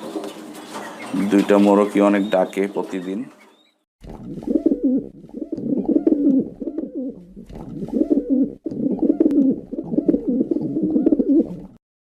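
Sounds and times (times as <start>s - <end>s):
pigeons cooing: 0.0s - 3.6s, 4.2s - 11.8s.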